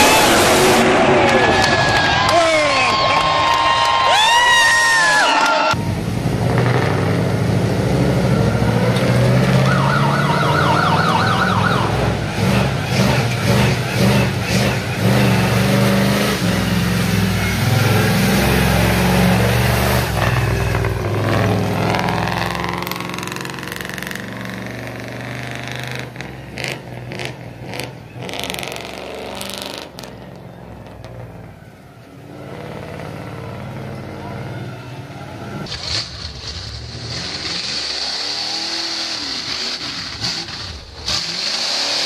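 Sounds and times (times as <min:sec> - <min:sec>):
truck engine revving loud: 0:00.0 - 0:02.6, 0:05.7 - 0:31.6, 0:32.2 - 0:42.0.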